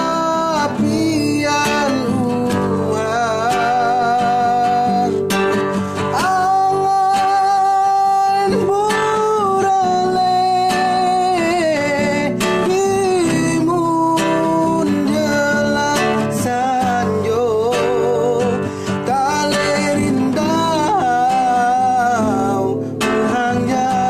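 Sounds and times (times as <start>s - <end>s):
acoustic guitar: 0.0s - 24.0s.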